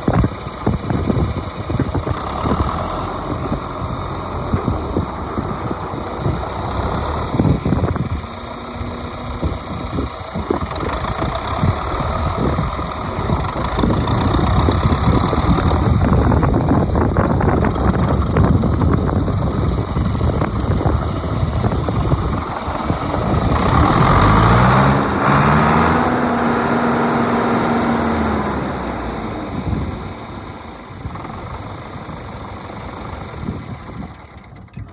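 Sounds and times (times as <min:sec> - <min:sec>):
diesel tractor engine revving: 0:00.0 - 0:34.8.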